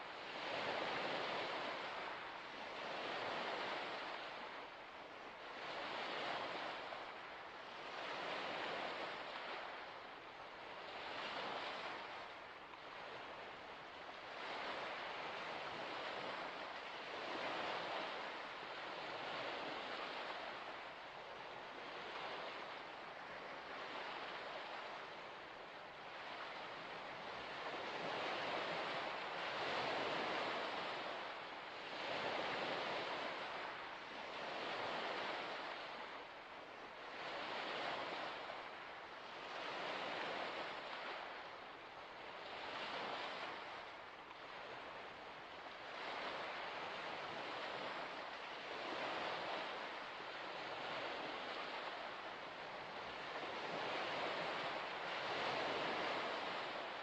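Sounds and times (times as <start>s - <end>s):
small waves washing onto shore: 0.0s - 57.0s.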